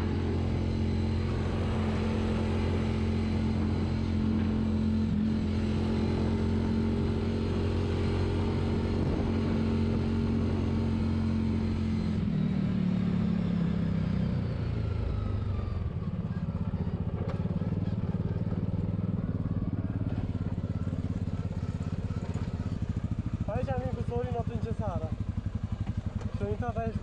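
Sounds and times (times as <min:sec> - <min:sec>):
utility vehicle engine droning: 0:00.0 - 0:27.0.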